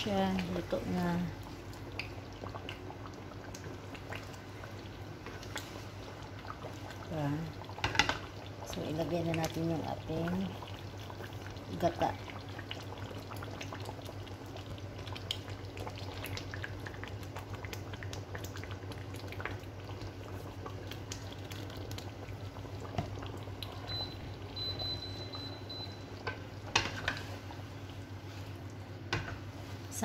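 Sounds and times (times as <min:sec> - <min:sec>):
curry bubbling in a pan: 0:00.0 - 0:30.0.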